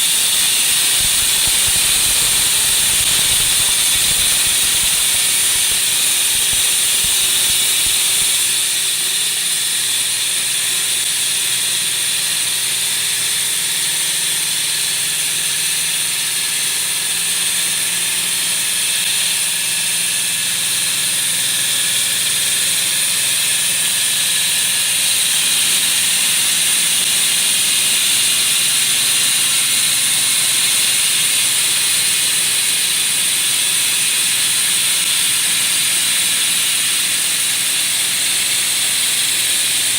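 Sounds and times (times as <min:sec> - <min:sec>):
wall saw cutting concrete: 0:00.0 - 0:39.9.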